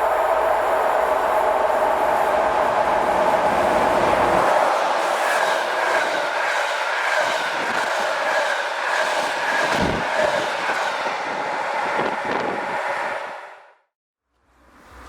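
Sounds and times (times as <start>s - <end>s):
train wheels rolling on rails: 0.0s - 13.7s.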